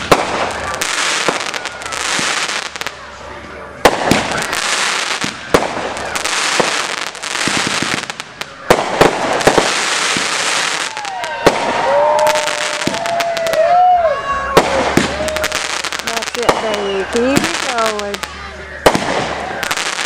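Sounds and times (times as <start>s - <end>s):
fireworks bangs: 0.0s - 20.0s
fireworks crackling: 0.0s - 20.0s
whistling fireworks: 0.0s - 20.0s.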